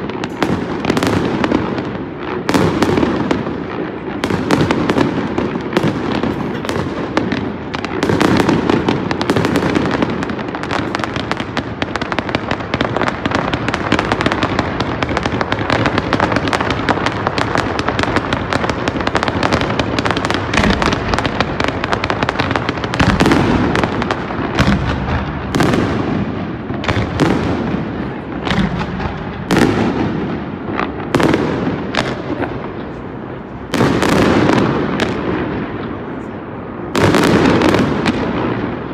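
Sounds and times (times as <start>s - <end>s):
fireworks bursting and crackling: 0.0s - 38.9s
fireworks sharp bangs: 0.0s - 38.9s.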